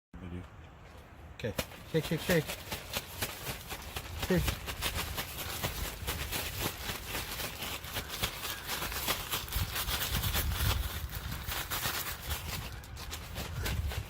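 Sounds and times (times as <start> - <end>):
crackly rustling shaking: 1.5 - 14.0.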